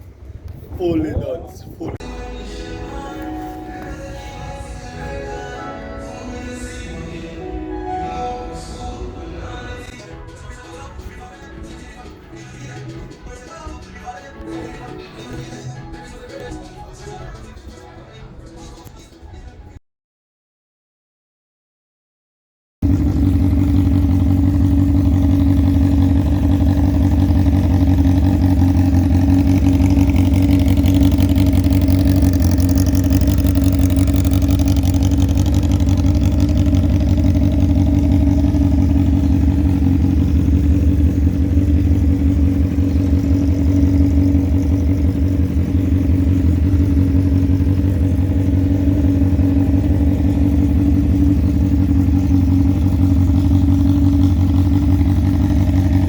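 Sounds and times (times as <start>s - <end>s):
motorcycle engine idling: 2.0s - 18.8s, 22.8s - 56.0s.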